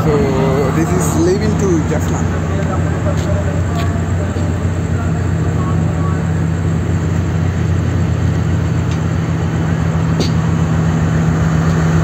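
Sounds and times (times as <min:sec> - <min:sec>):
train diesel engine droning: 0:00.0 - 0:12.0.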